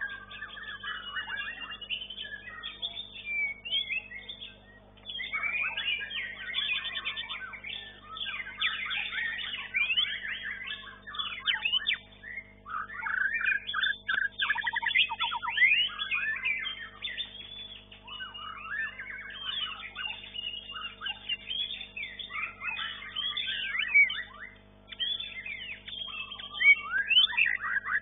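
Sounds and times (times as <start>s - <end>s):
songbird whistling phrases: 0.0s - 28.0s.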